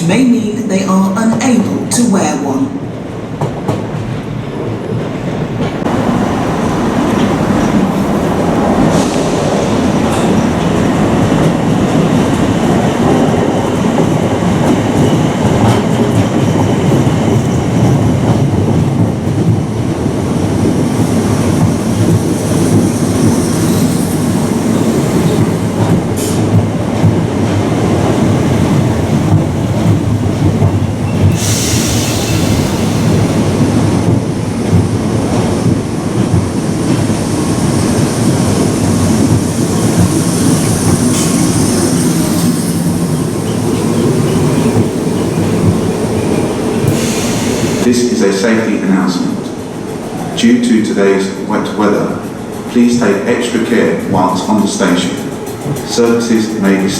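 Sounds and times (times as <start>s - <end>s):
train wheels clattering: 3.3s - 56.9s.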